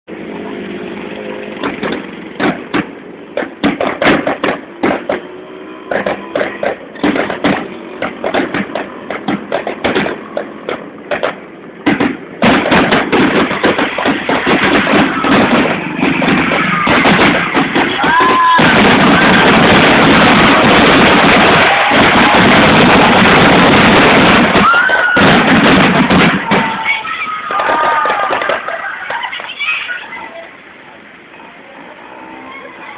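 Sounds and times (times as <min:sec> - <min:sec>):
fireworks bangs and crackling: 0:00.6 - 0:05.3, 0:05.9 - 0:30.1
whistling fireworks: 0:01.6 - 0:30.2.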